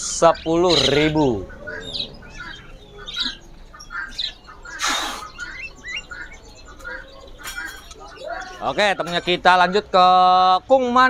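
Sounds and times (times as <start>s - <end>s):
budgerigars chirping and squawking: 0.0s - 11.0s.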